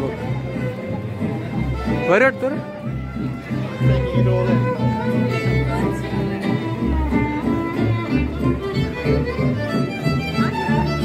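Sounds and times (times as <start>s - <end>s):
violin playing lively melody: 0.0s - 11.0s.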